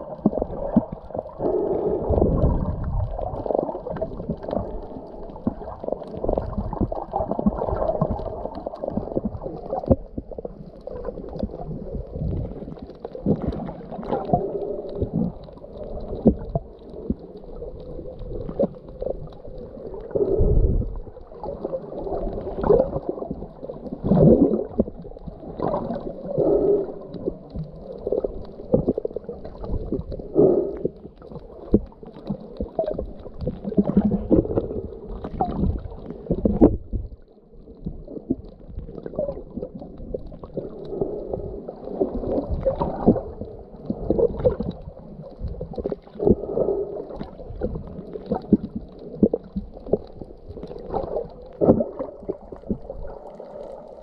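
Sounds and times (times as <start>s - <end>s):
muffled underwater gurgling: 0.0s - 54.0s.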